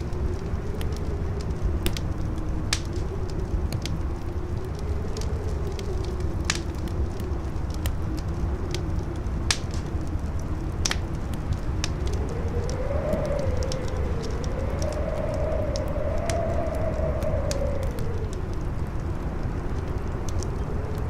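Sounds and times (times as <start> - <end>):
wind howling: 0.0 - 21.0
wood fire crackling and popping: 0.0 - 21.0.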